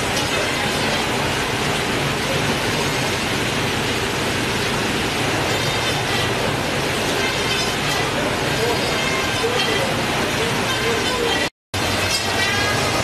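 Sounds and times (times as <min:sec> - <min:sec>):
processing machinery running: 0:00.0 - 0:13.0.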